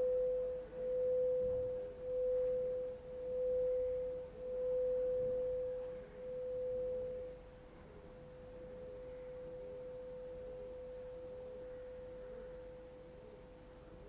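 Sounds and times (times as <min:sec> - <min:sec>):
pulsing sustained pure tone: 0:00.0 - 0:14.0.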